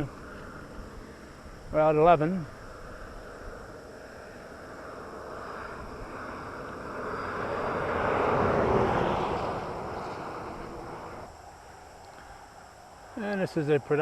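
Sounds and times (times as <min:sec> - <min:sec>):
vehicle passing on road: 0:00.0 - 0:11.4.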